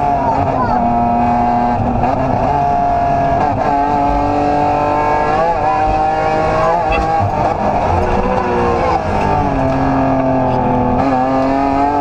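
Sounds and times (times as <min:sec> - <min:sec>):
rally car engine running hard: 0:00.0 - 0:12.0.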